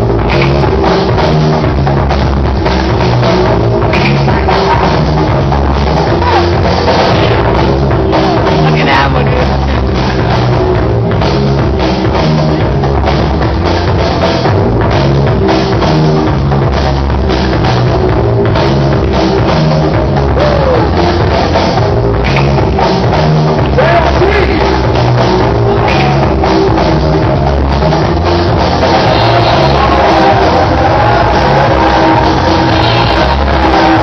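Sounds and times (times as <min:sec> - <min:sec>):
breakdance music with heavy bass: 0:00.0 - 0:34.0
drum-kit beat: 0:00.0 - 0:34.0.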